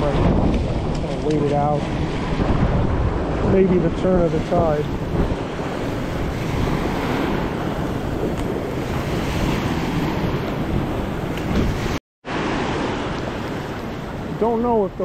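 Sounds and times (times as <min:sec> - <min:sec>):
ocean waves washing in: 0:00.0 - 0:15.0
wind buffeting microphone: 0:00.0 - 0:15.0.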